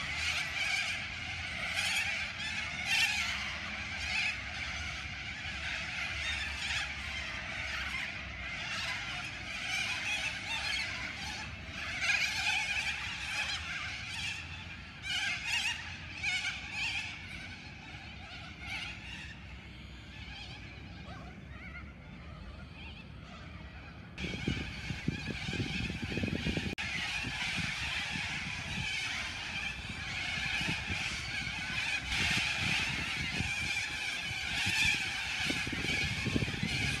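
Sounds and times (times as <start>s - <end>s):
flock of birds screeching: 0.0s - 37.0s.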